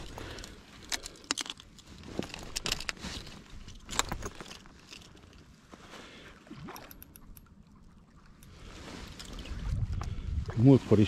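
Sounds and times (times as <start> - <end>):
fishing gear clicking and rattling: 0.0 - 5.8, 6.6 - 9.7.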